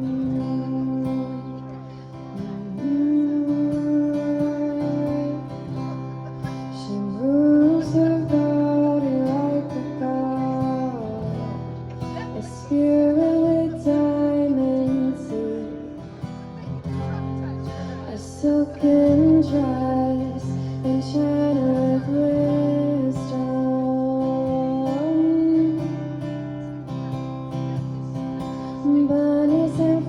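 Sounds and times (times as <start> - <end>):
strummed acoustic guitar: 0.0 - 30.0.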